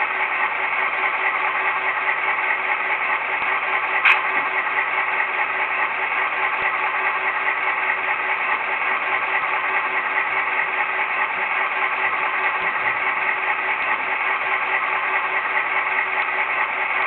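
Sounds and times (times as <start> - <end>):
simulated diesel engine through speaker: 0.0 - 17.0.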